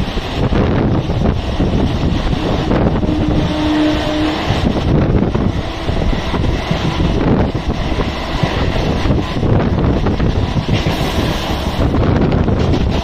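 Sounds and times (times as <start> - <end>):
electric train running: 0.0 - 13.0
wind buffeting microphone: 0.0 - 13.0.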